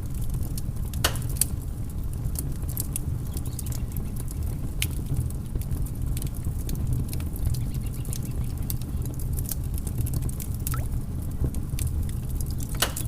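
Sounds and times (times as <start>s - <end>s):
sharp pops and snaps of fire: 0.0s - 13.0s
wood fire crackling: 0.0s - 13.0s.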